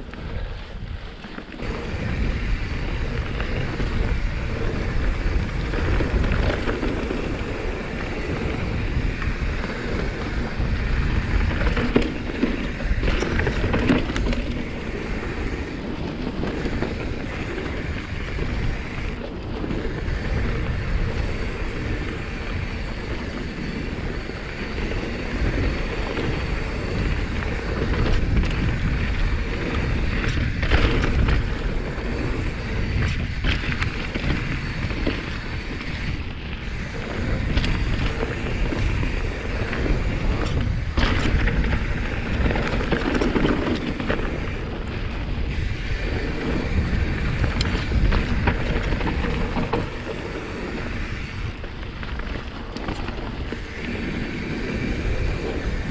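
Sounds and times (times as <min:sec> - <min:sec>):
bike clattering over rough ground: 0:00.0 - 0:55.9
bike tyres rolling on dirt: 0:00.0 - 0:55.9.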